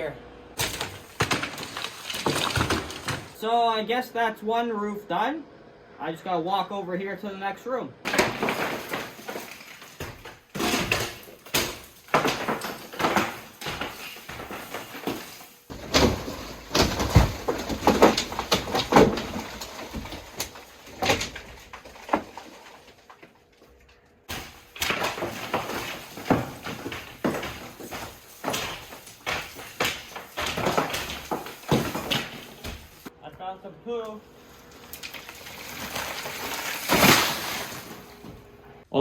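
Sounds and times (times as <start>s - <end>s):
plaster cracking and crashing down: 0.6s - 3.4s, 8.0s - 33.1s, 34.3s - 38.5s.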